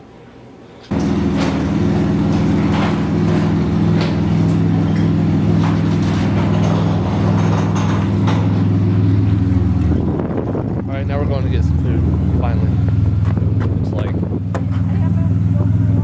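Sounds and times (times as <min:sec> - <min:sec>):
car engine and road noise: 0:00.9 - 0:16.0.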